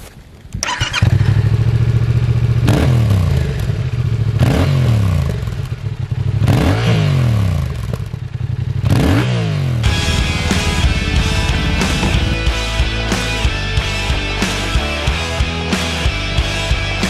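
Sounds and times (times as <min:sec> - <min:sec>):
motorcycle engine starting and revving: 0:00.6 - 0:14.2.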